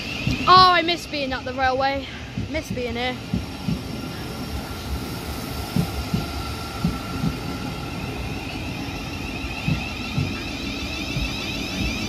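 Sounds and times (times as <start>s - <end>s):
electric train running rumble: 0.0s - 12.0s
train wheels clacking over rail joint: 2.2s - 12.0s.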